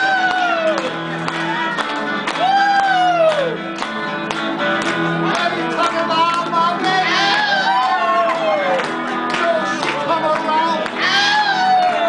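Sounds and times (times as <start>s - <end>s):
electric guitar lead bending notes: 0.0s - 12.0s
electric guitar rhythm part: 0.0s - 12.0s.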